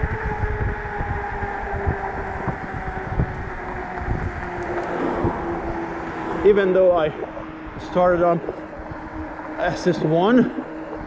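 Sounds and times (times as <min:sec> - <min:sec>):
electric motor and tyres humming: 0:00.0 - 0:11.0
wind buffeting microphone: 0:00.0 - 0:11.0.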